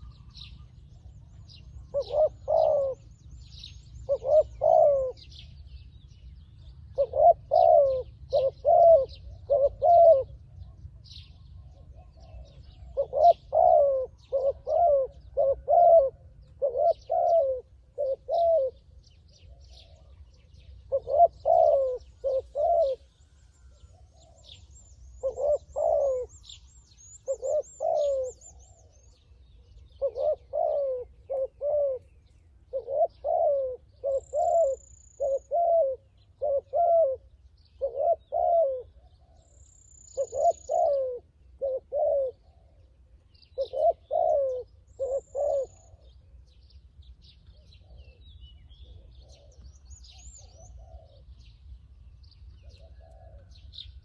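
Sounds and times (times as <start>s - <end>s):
dove cooing: 0.0s - 5.8s, 6.6s - 46.6s, 47.2s - 51.6s, 52.5s - 54.0s
small birds chirping: 0.0s - 54.0s.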